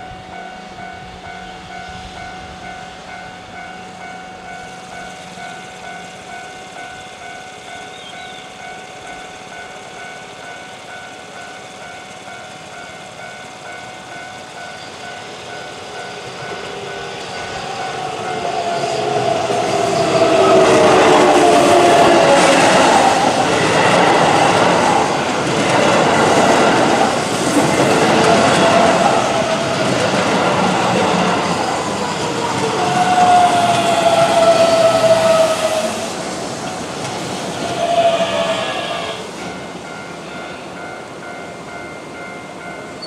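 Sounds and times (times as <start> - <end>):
train traction motors whining: 0.0 - 43.0
train wheels clattering on rails: 0.0 - 43.0.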